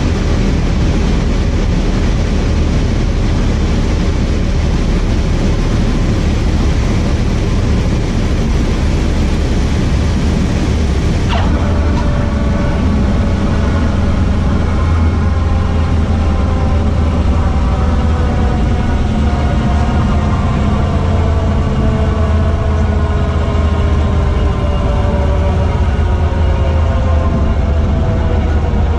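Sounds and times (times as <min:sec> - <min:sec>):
light aircraft engine and propeller: 0:00.0 - 0:28.9.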